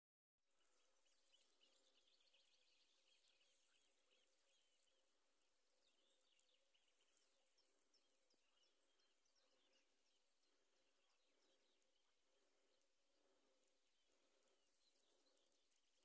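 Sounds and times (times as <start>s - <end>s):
small birds chirping: 0.5s - 16.0s.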